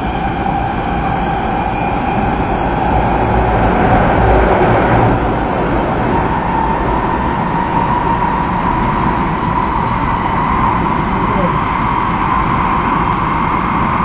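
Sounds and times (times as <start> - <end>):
steady train whine: 0.0 - 14.0
train cabin rumble: 0.0 - 14.0.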